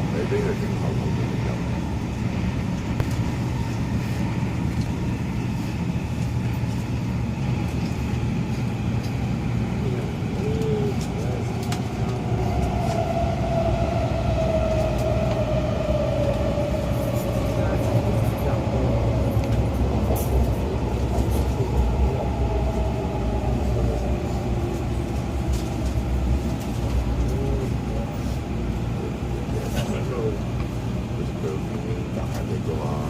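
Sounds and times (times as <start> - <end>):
wheels rumbling on rails: 0.0 - 33.0.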